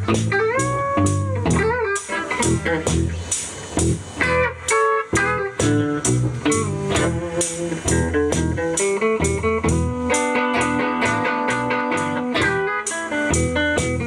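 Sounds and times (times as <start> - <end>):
bass line: 0.0 - 12.7, 13.3 - 14.0
blues guitar playing: 0.0 - 14.0
drum beat: 0.0 - 14.0.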